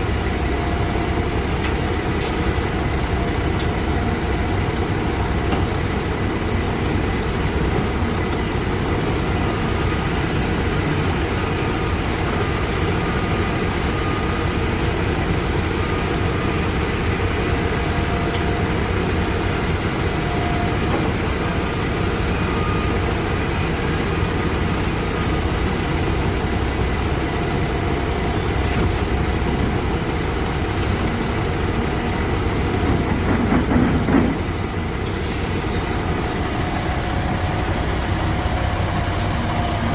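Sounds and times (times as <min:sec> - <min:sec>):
diesel excavator running: 0:00.0 - 0:39.9.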